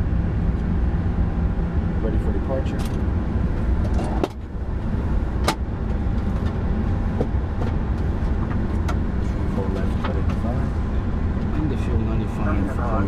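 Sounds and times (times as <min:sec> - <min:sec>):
airplane engines rumbling: 0:00.0 - 0:13.0.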